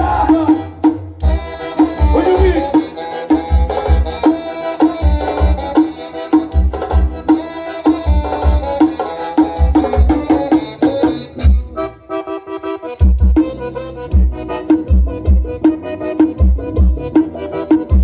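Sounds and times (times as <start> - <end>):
music with heavy bass thumps: 0.0 - 10.5, 12.9 - 18.0.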